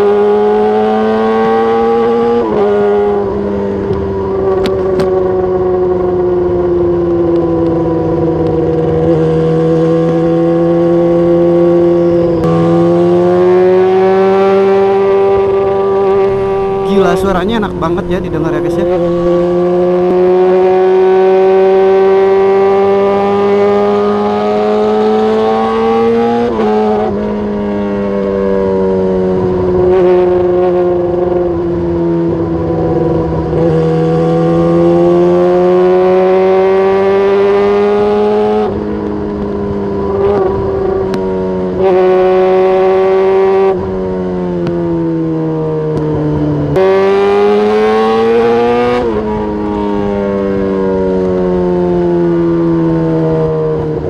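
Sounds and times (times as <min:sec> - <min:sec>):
loud motorcycle engine revving: 0:00.0 - 0:54.0.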